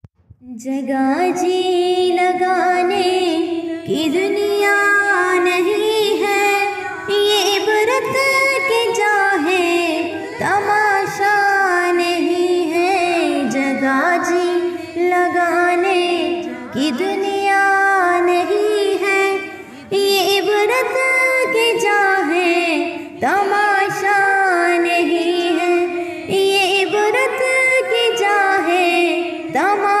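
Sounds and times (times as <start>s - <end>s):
person singing devotional song: 0.4s - 30.0s.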